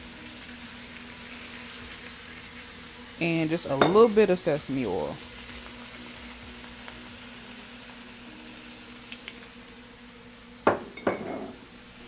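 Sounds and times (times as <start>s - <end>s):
vegetables sizzling in a skillet: 0.0s - 12.0s.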